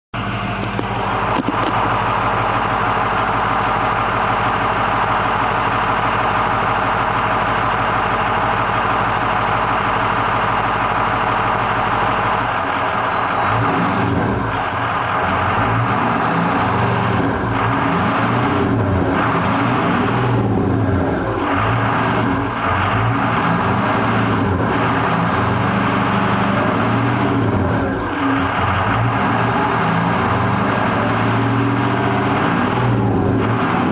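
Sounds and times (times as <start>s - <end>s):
diesel engine revving: 0.2s - 33.9s.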